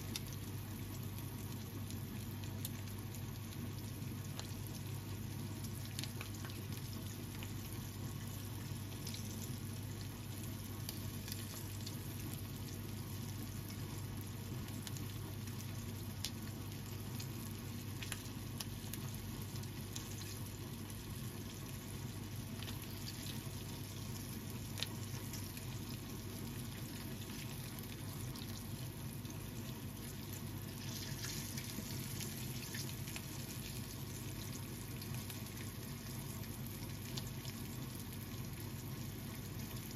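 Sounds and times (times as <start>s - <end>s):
chicken frying in oil: 0.0s - 39.9s
oil crackles and pops: 0.0s - 39.9s.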